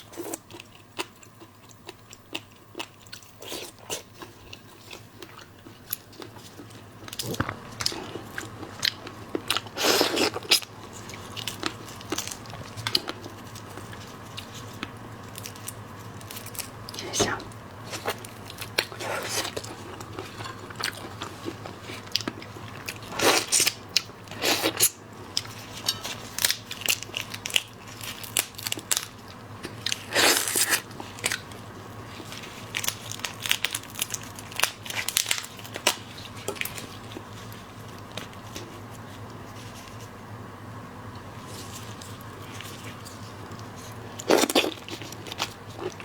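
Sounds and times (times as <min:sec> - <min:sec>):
crunching bites and chewing: 0:00.0 - 0:39.3, 0:41.4 - 0:46.0.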